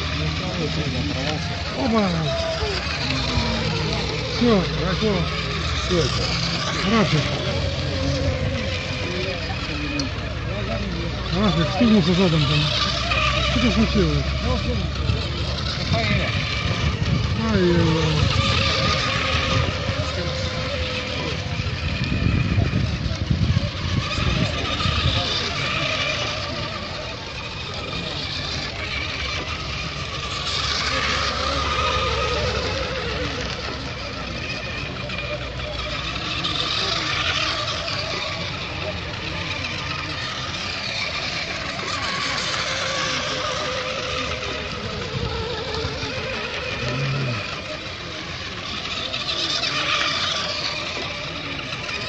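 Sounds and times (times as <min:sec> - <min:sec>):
model boat motors whining: 0:00.0 - 0:52.0.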